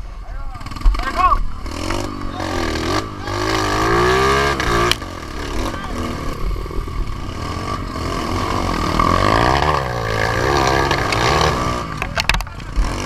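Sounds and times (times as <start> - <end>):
dirt bike engine revving: 0.4 - 13.0.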